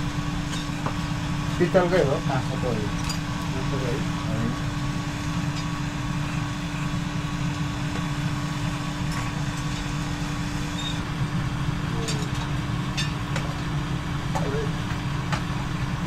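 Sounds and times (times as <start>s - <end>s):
furnace blower rushing and humming: 0.0s - 16.0s.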